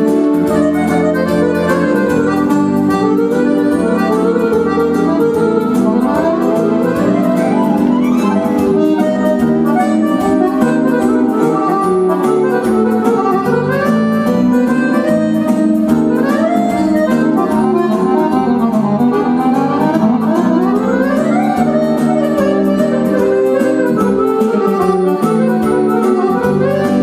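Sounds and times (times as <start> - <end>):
accordion playing fast melody: 0.0 - 27.0
keyboard accompaniment with steady beat: 0.0 - 27.0.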